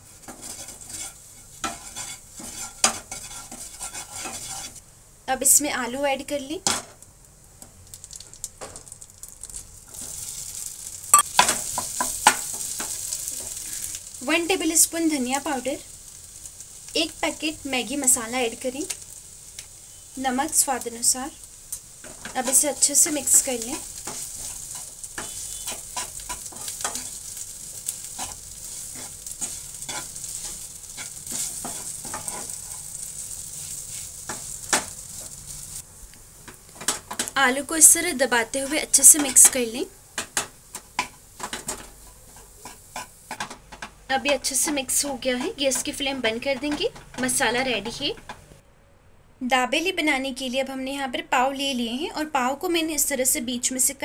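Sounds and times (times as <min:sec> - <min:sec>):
oil sizzling in frying pan: 0:00.0 - 0:48.5.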